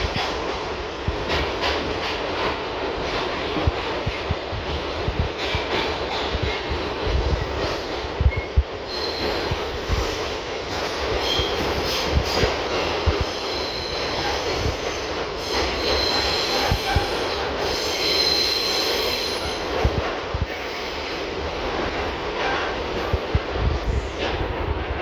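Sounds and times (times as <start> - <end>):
subway car rumbling on track: 0.0 - 25.0.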